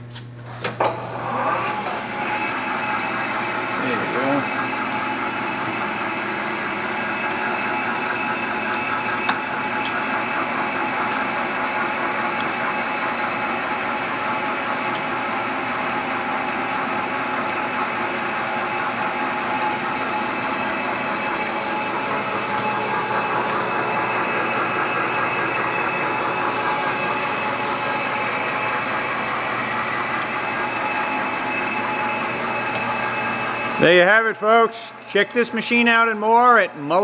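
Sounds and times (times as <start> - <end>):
lathe gear whine: 0.8 - 37.0.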